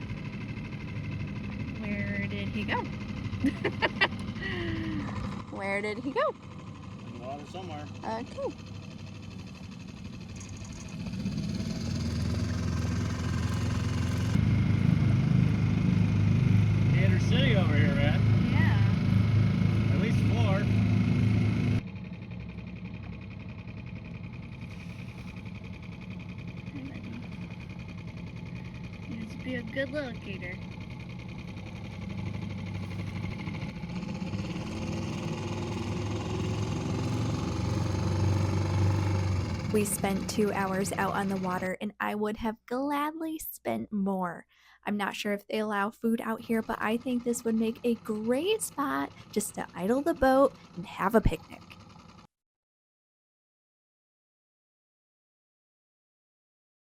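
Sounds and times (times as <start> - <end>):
outboard motor buzzing: 0.0 - 42.1, 45.1 - 52.3.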